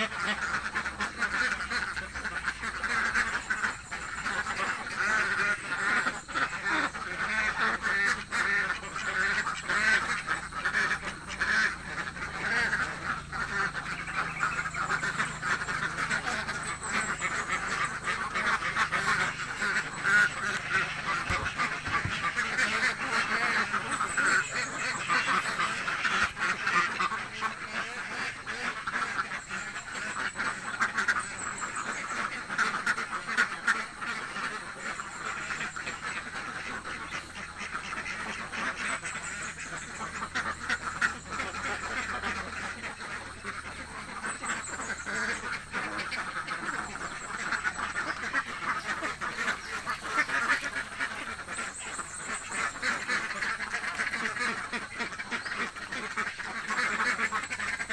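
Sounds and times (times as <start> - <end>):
ducks quacking: 0.0 - 57.9.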